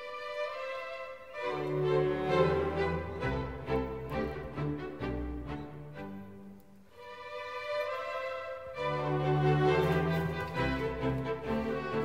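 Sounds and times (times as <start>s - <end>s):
bowed string notes: 0.0s - 12.0s.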